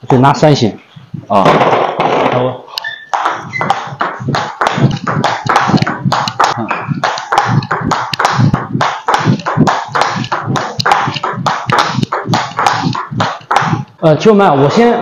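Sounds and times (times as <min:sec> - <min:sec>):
table tennis balls clicking: 0:01.8 - 0:14.0.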